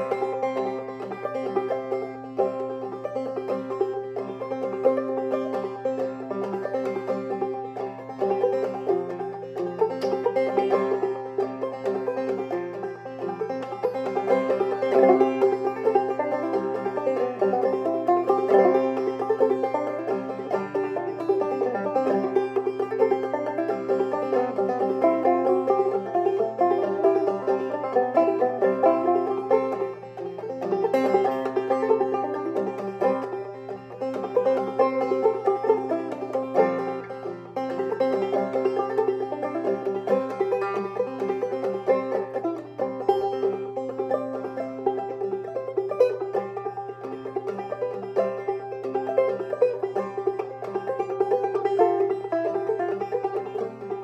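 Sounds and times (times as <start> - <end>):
banjo playing old-time tune: 0.0 - 54.0.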